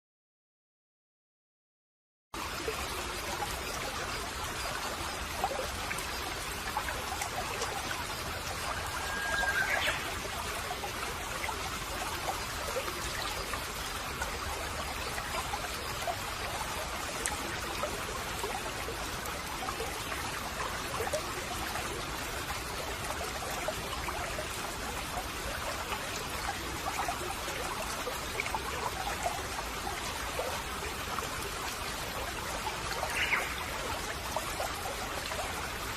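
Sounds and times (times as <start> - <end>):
stream trickling and babbling: 2.4 - 35.9.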